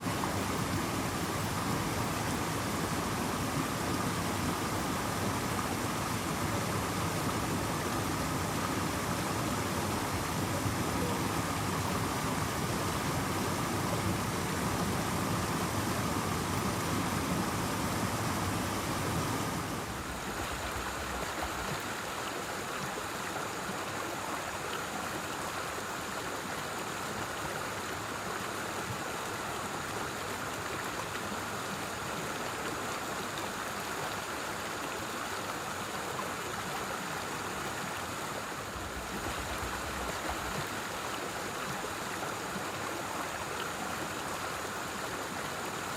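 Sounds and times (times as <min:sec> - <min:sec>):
stream flowing over rocks: 0:00.0 - 0:45.9.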